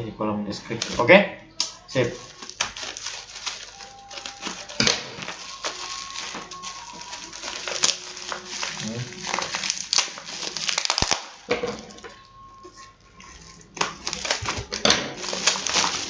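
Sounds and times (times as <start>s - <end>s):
packaging crinkling and rustling: 0.6s - 16.0s.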